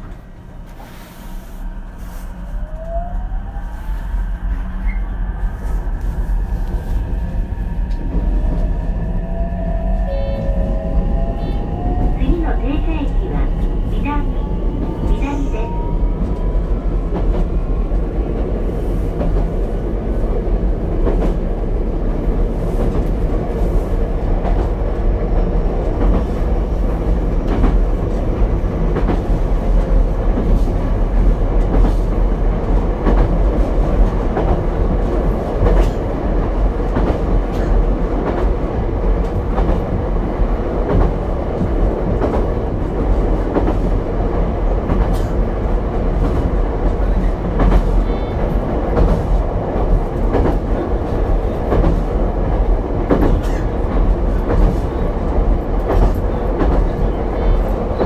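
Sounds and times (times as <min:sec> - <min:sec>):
train rumble and hum: 0:00.0 - 0:58.0.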